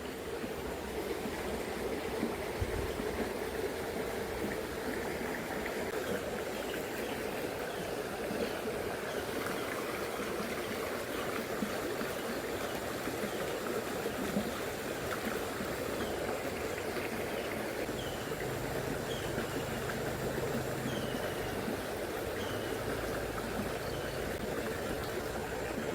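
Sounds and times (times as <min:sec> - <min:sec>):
river babbling over stones: 0:00.0 - 0:25.9.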